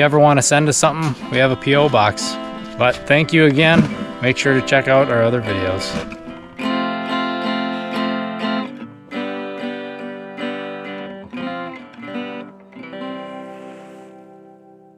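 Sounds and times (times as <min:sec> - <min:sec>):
acoustic guitar strumming chords: 0:00.0 - 0:14.9.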